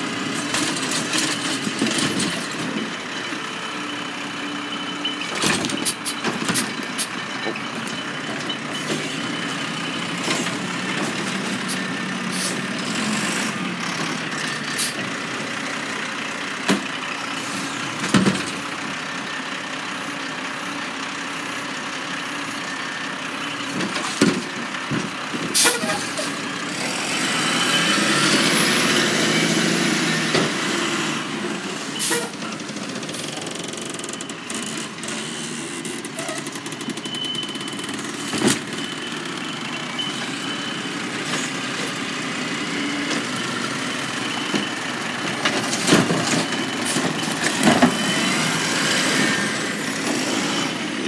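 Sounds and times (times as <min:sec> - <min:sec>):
garbage truck engine running: 0:00.0 - 0:51.0.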